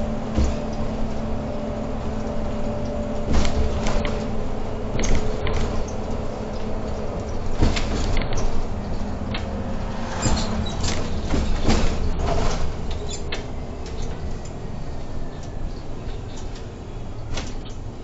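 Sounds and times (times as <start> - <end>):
bus engine and road rumble: 0.0 - 18.0
bodywork rattles and creaks: 0.2 - 18.0.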